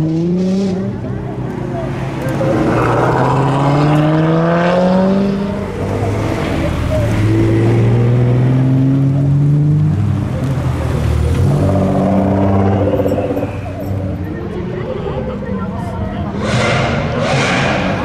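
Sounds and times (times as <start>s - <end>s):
modified car engines revving past: 0.0s - 18.0s.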